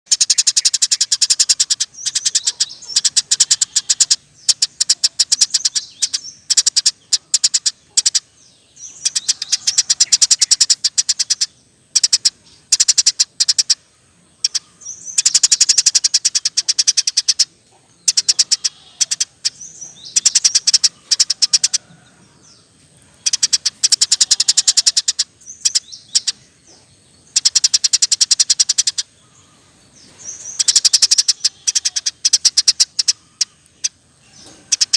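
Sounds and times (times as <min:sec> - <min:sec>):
sparrow chirping: 0:00.1 - 0:34.9.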